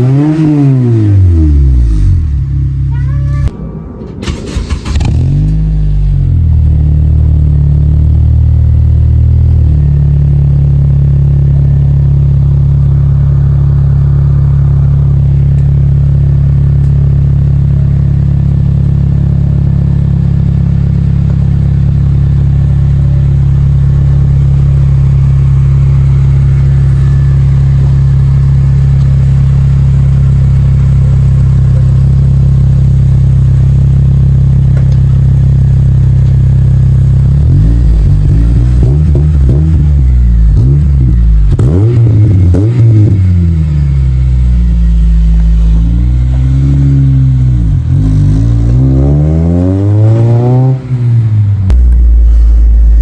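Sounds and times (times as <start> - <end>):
car engine droning while cruising: 0.0 - 53.0.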